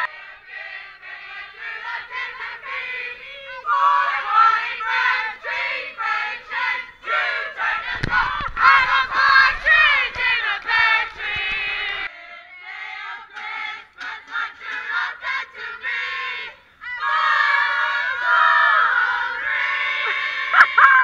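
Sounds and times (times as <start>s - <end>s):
crowd singing and shouting: 0.0s - 21.0s.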